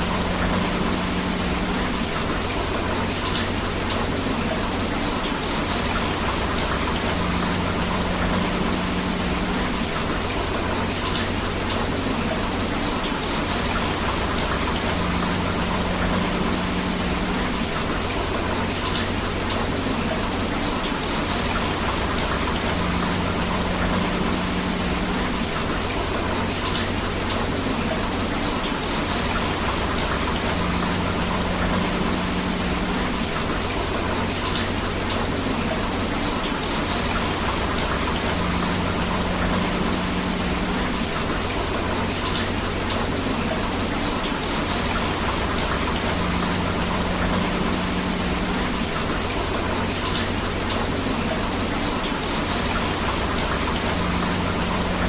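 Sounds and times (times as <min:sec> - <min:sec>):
flowing river water: 0:00.0 - 0:55.0
steady rain: 0:00.0 - 0:55.0.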